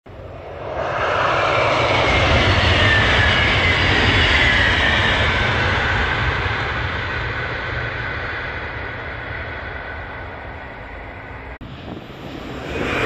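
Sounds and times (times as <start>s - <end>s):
high-speed train rushing past: 0.1s - 13.0s.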